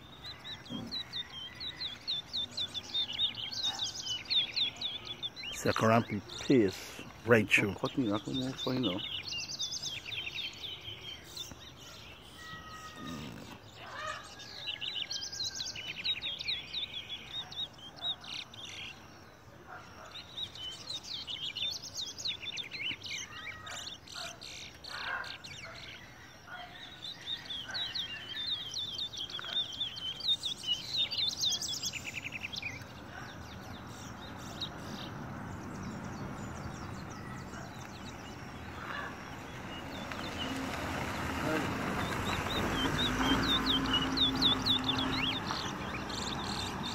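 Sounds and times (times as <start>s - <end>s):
songbirds trilling: 0.0s - 46.9s.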